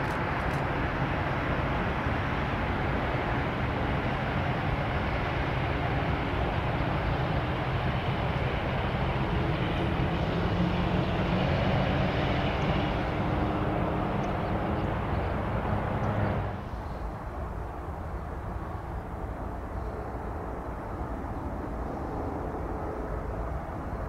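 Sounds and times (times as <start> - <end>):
faint jet engine whine: 0.0 - 24.0
jet engine roar: 0.0 - 24.0.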